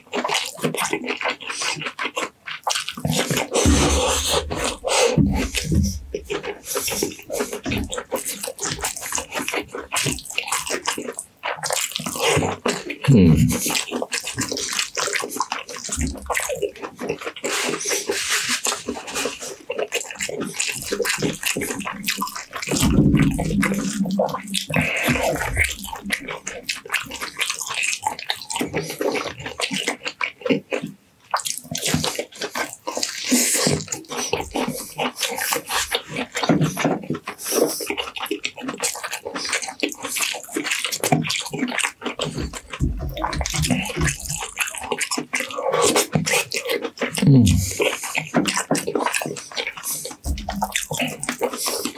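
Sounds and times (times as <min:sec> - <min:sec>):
wet chewing and mouth sounds: 0:00.0 - 0:51.9.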